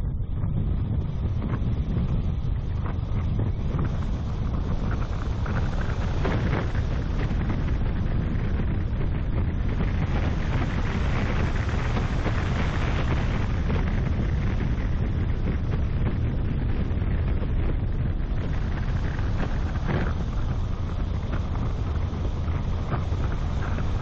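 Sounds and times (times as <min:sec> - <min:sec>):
car rumbling on road: 0:00.0 - 0:24.0
wind buffeting microphone: 0:00.0 - 0:24.0.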